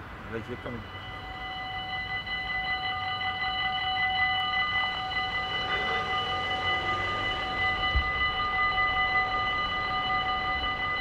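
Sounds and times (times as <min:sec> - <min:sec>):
level-crossing warning bell ringing: 0:00.0 - 0:11.0.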